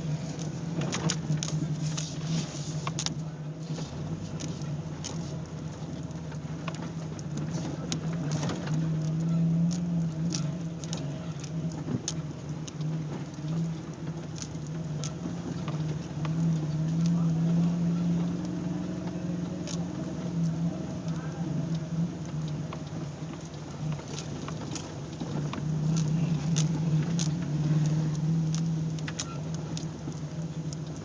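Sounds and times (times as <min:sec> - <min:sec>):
off-road vehicle engine running: 0:00.0 - 0:31.0
sharp ticks and patter: 0:00.0 - 0:31.0.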